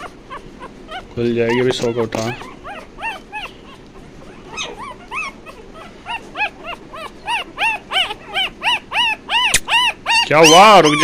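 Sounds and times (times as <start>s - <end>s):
puppy squealing and whimpering: 0.0s - 11.0s.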